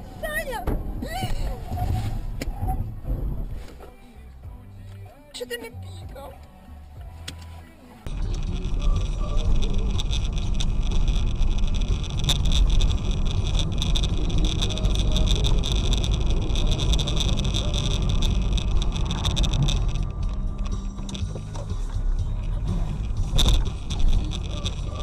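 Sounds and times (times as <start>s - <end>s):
vehicle road and engine noise: 0.0s - 25.0s.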